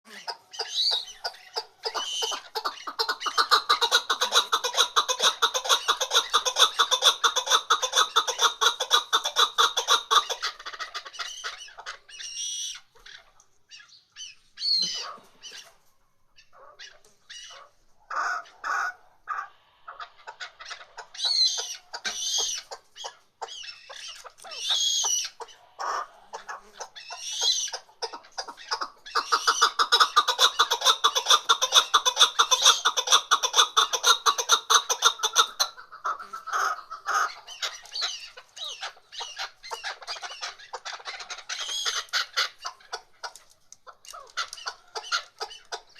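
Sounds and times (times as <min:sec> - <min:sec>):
partridge clucking calls: 0:00.1 - 0:45.9.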